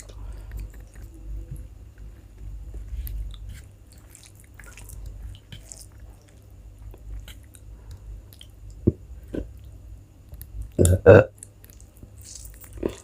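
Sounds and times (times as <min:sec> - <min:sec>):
person chewing wetly: 0:00.0 - 0:09.7, 0:11.3 - 0:13.0.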